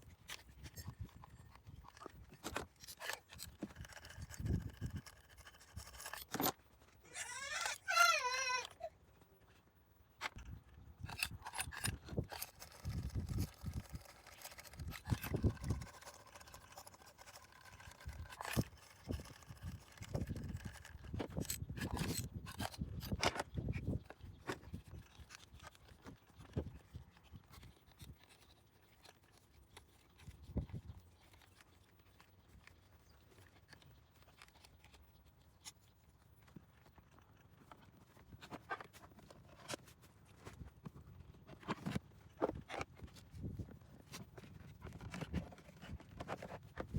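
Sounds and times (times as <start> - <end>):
handling clicks knocks and scraping: 0.0 - 8.8, 10.2 - 46.9.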